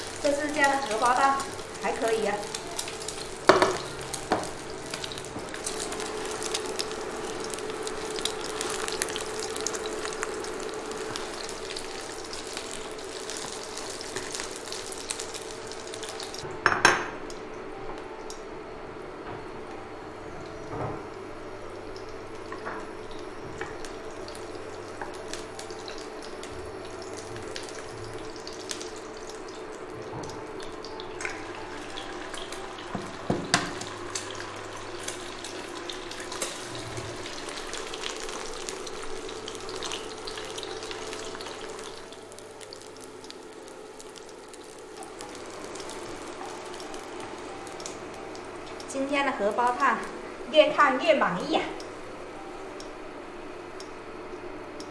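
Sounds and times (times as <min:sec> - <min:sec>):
eggs sizzling in oil: 0:00.0 - 0:17.4, 0:20.2 - 0:54.9.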